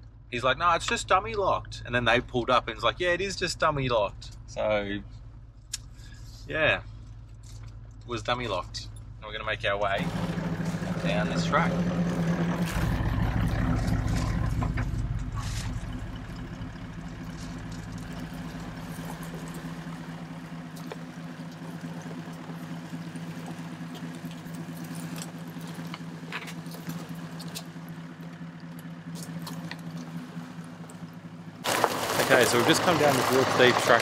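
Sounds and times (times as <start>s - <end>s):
engine running at low revs: 0.0s - 34.0s.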